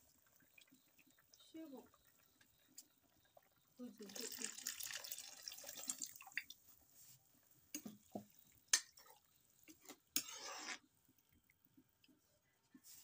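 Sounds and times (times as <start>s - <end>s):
curry bubbling in pot: 0.0s - 12.2s.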